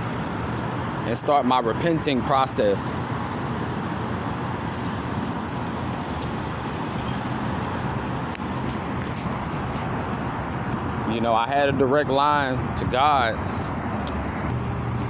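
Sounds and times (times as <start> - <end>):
cars going by: 0.0 - 15.0.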